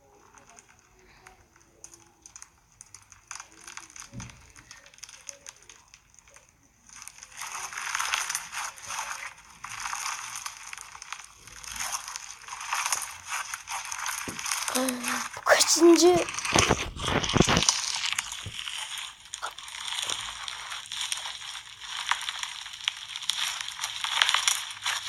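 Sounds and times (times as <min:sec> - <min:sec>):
crunchy slime crackling and popping: 0:00.0 - 0:25.0.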